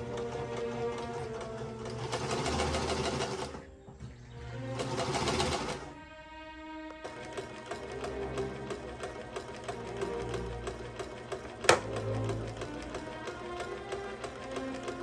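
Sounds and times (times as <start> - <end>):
sewing machine clattering: 0.0 - 3.7, 4.8 - 5.9, 7.0 - 15.0
background music: 0.0 - 15.0.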